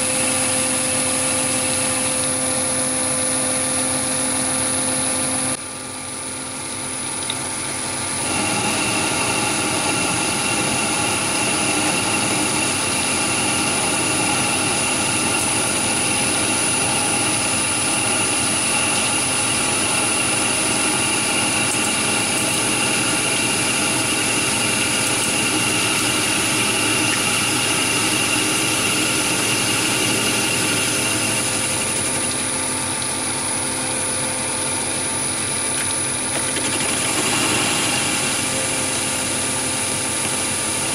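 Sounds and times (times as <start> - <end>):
lathe running: 6.6 - 40.9
high cutting whine: 6.9 - 40.9.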